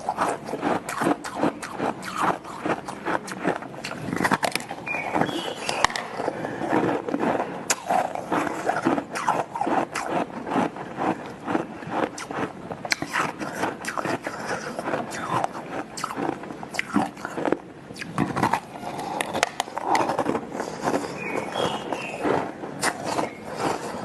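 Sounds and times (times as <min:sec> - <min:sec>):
chewing crunchy shaved ice: 0:00.0 - 0:24.0.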